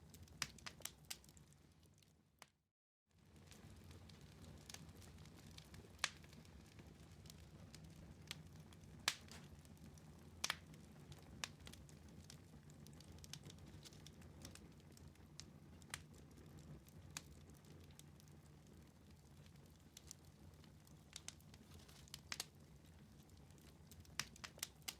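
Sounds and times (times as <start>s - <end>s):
wood fire crackles and pops: 0.0s - 2.6s, 3.2s - 24.9s
fire rumbling: 3.2s - 24.9s.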